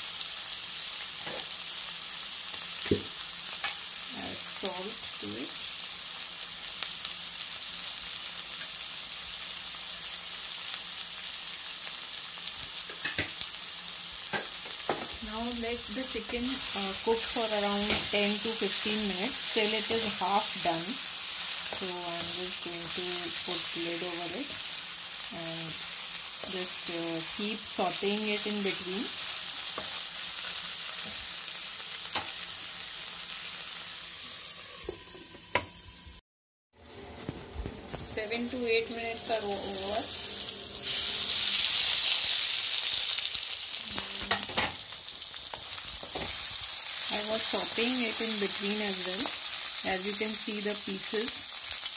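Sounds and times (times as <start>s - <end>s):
chicken sizzling in oil: 0.0s - 51.9s.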